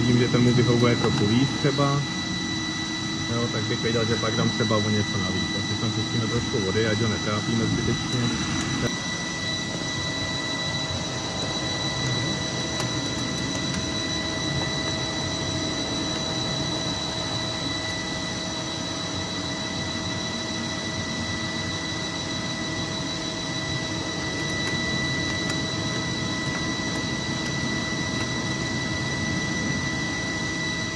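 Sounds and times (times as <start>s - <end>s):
high-pitched machine whine: 0.0s - 30.9s.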